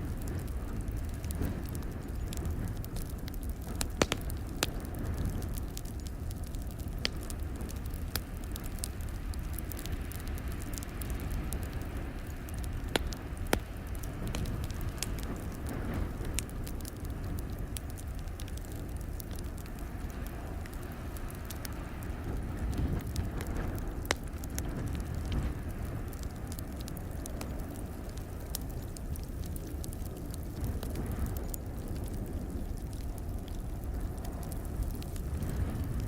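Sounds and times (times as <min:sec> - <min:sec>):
low fire rumble: 0:00.0 - 0:36.0
sharp pops of fire: 0:00.0 - 0:36.0
wood fire crackling: 0:00.0 - 0:36.0.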